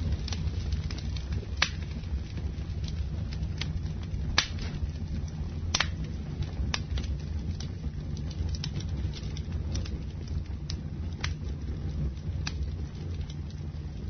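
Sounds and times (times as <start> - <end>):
burning wood crackling and popping: 0.0 - 14.0
campfire low rumble: 0.0 - 14.0.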